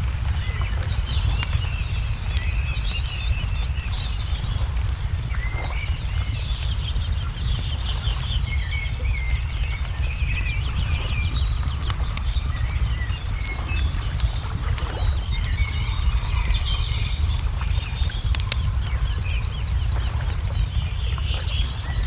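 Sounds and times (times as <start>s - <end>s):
low rumble: 0.0s - 22.0s
small birds chirping: 0.0s - 22.0s
wood fire crackling and popping: 0.0s - 22.0s.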